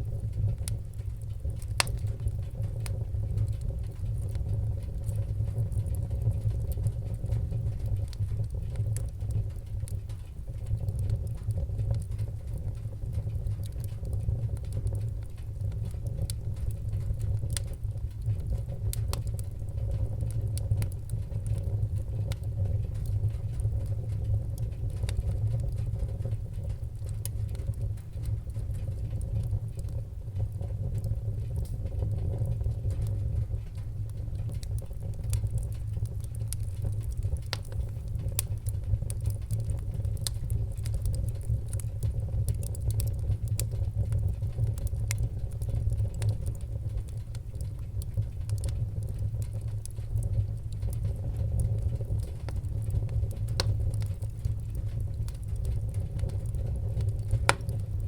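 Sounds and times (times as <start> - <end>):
low rumble of fire: 0.0 - 58.0
wood fire crackling and popping: 0.0 - 58.0.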